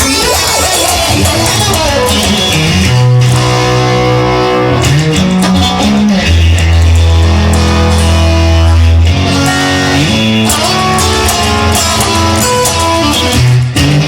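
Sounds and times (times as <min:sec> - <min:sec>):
blues-rock guitar chords: 0:00.0 - 0:14.0
sustained bass notes: 0:00.0 - 0:14.0.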